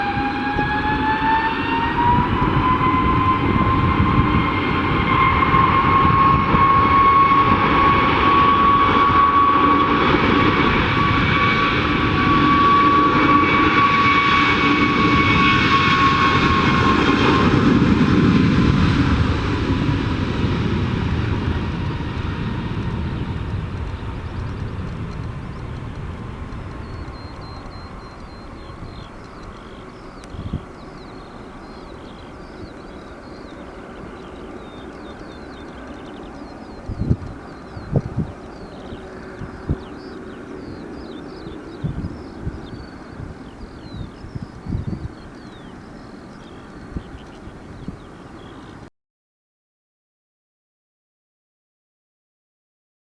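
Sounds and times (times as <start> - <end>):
jet engines at takeoff: 0.0 - 48.9.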